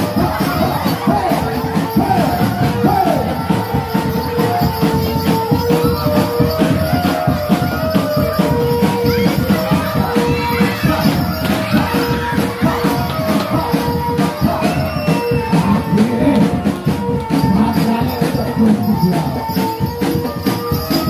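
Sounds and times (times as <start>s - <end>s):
fast steady drumming: 0.0s - 21.0s
shaker-like jingle: 0.0s - 21.0s.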